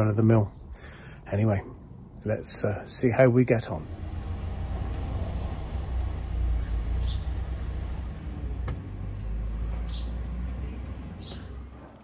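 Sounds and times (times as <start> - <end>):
low rumble with hiss: 0.0 - 12.0.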